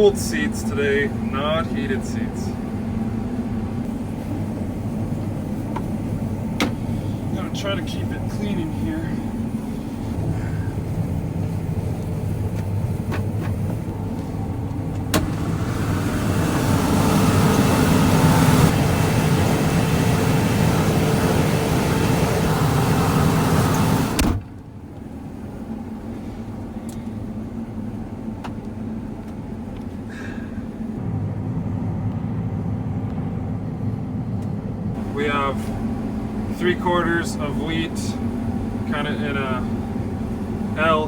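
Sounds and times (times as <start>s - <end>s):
combine engine and machinery drone: 0.0s - 41.0s.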